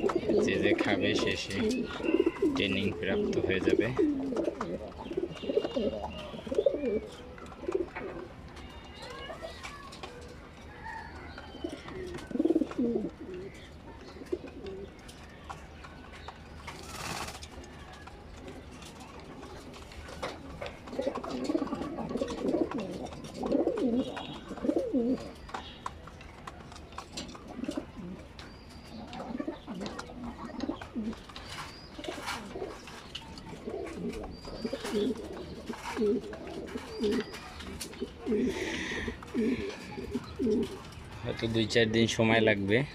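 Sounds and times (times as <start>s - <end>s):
pigeons cooing: 0.0s - 16.0s, 16.6s - 42.2s.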